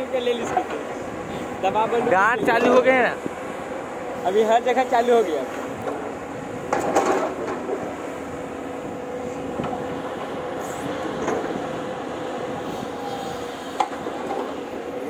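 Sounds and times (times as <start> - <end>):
excavator diesel engines: 0.0 - 15.0.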